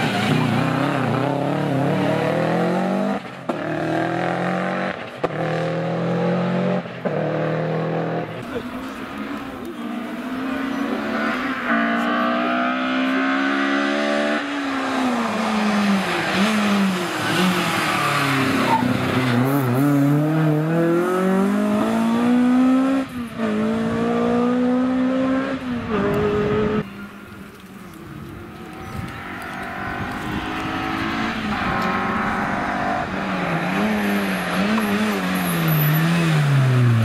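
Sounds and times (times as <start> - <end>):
rally car engines revving: 0.0 - 37.0.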